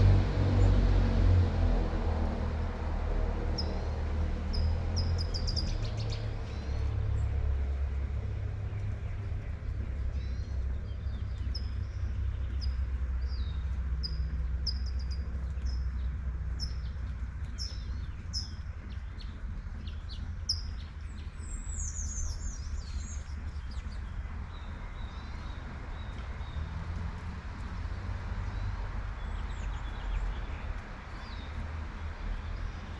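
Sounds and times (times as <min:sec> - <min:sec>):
steady low rumble: 0:00.0 - 0:32.9
songbird chirping: 0:03.5 - 0:32.9.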